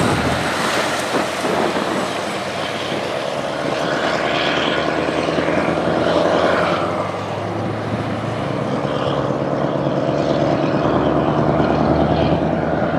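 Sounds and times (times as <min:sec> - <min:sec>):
truck diesel engines: 0:00.0 - 0:12.9.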